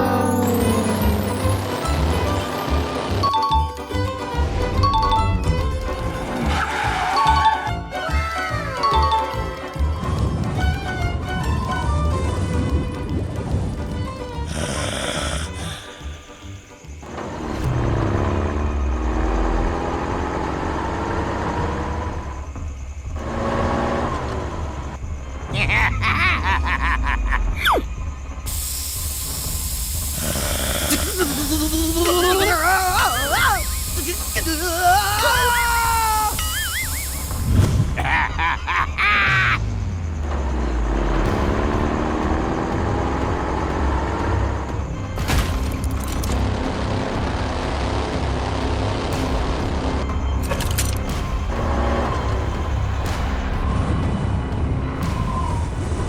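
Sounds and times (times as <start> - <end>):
vehicle engine running: 0.0 - 7.9, 9.4 - 25.5, 27.9 - 37.9, 39.6 - 56.0.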